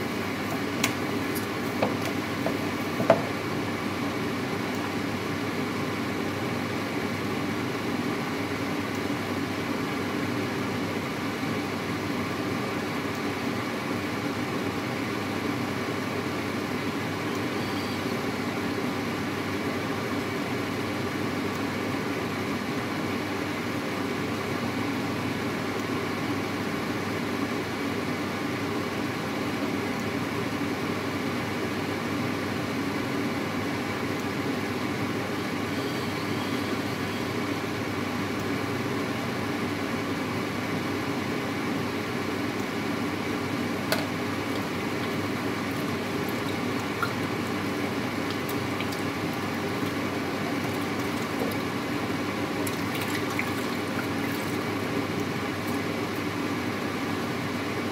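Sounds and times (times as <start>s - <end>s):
steady mechanical hum: 0.0s - 57.9s.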